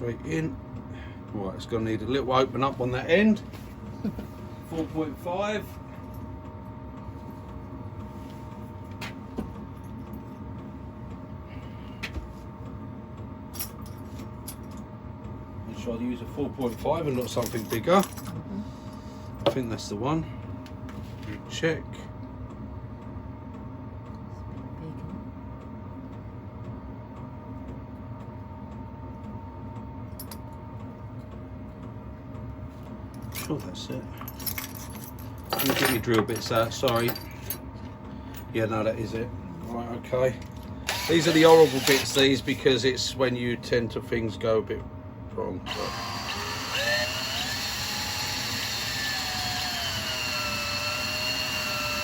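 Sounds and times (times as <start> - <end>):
workshop motor hum: 0.0 - 52.0.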